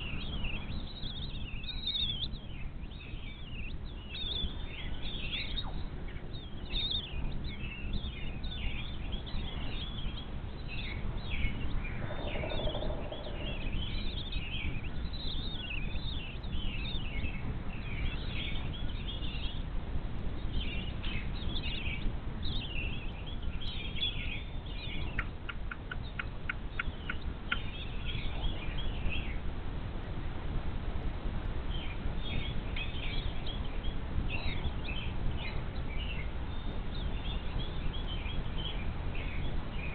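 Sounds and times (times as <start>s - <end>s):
birds chirping: 0.0s - 30.2s, 31.5s - 39.9s
low wind rumble: 0.0s - 39.9s.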